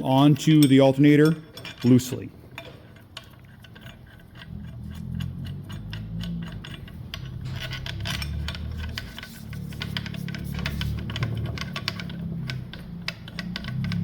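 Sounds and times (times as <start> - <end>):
light metallic clicks and rubbing: 0.0 - 14.0.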